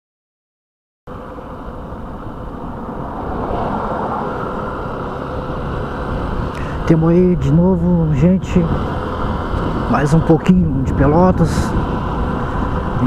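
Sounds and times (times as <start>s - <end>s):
motorcycle engine running: 1.1s - 13.0s
street noise: 1.1s - 13.0s.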